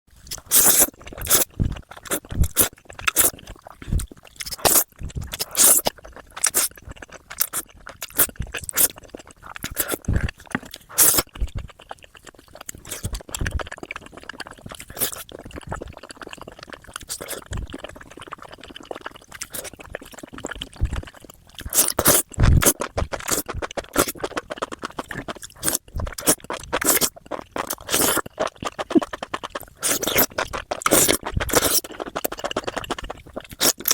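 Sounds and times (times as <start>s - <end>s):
crunchy bites and chewing: 0.2s - 33.9s.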